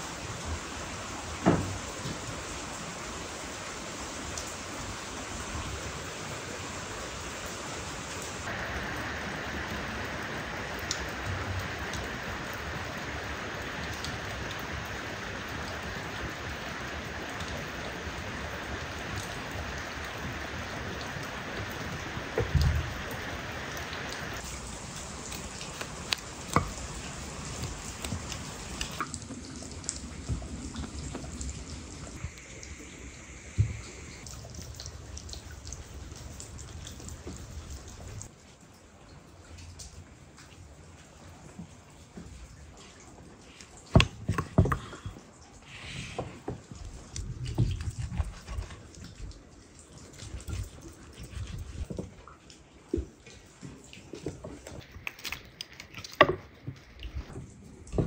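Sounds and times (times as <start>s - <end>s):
steady rain hiss: 0.0s - 58.0s
drips and light clicks: 9.6s - 58.0s.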